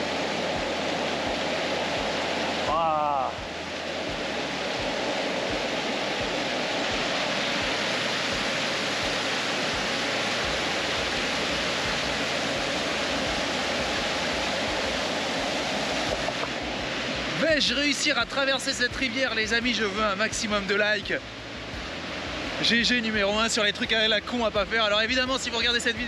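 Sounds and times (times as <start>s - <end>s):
floodwater rushing and churning: 0.0s - 26.0s.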